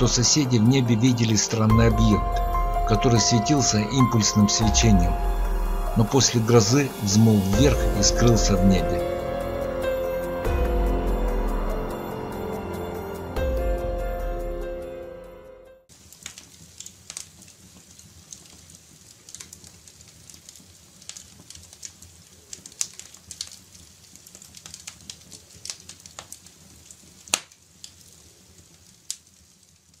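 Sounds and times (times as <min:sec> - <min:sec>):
wood fire crackling: 0:00.0 - 0:14.1, 0:15.8 - 0:30.0.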